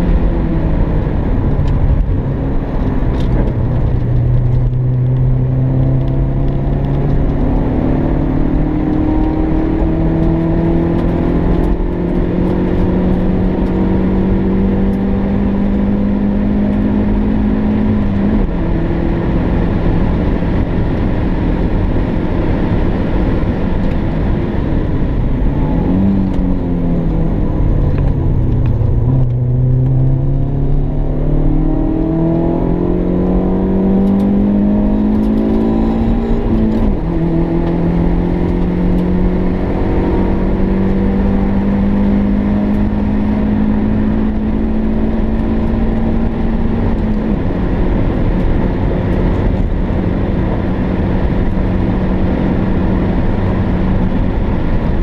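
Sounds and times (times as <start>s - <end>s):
car engine revving through gears: 0.0s - 55.0s.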